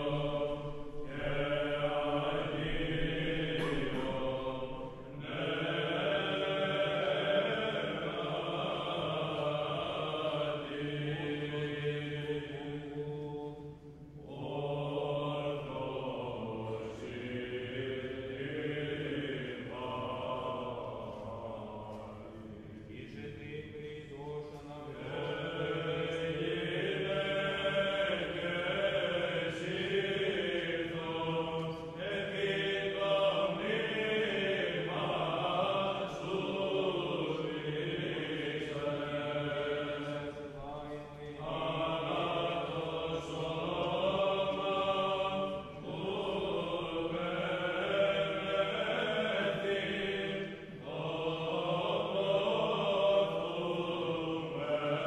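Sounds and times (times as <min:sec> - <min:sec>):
slow choral chant: 0:00.0 - 0:55.0.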